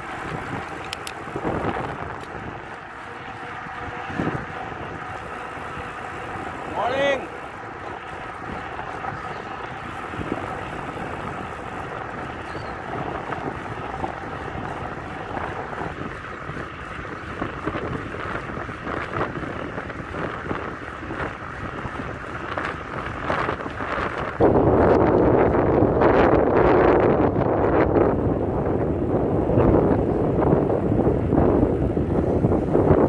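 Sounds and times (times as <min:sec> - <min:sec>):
vehicle road noise: 0:00.0 - 0:33.0
wind buffeting microphone: 0:00.0 - 0:33.0.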